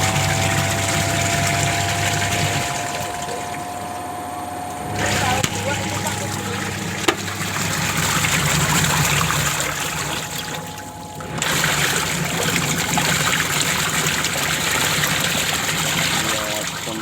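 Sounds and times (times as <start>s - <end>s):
low steady hum: 0.0s - 17.0s
water trickling in washing machine: 0.0s - 17.0s.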